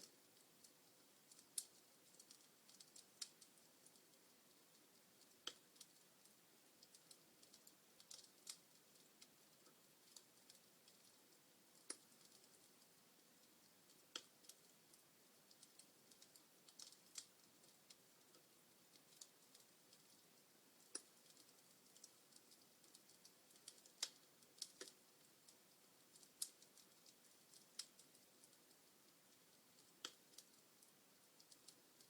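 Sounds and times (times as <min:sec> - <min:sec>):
soft hiss: 0:00.0 - 0:32.0
wood logs crackling in fireplace: 0:00.0 - 0:32.0.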